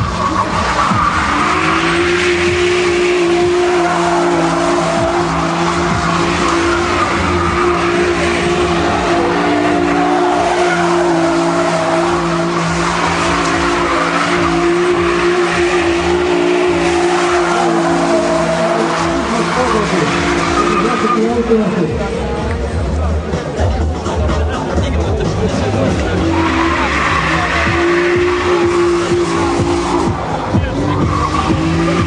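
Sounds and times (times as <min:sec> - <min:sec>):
tyres squealing: 0:00.0 - 0:21.6, 0:25.7 - 0:32.0
engine at high revs: 0:00.0 - 0:23.3, 0:25.2 - 0:32.0.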